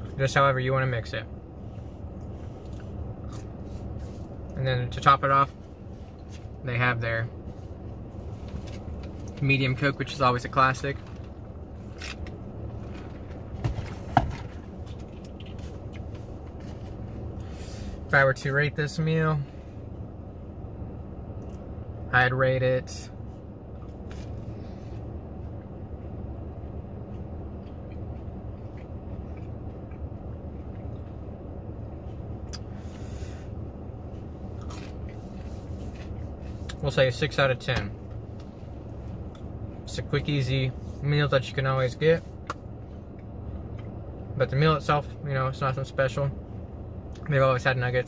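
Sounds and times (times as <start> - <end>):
car cabin hum: 0.0 - 48.0.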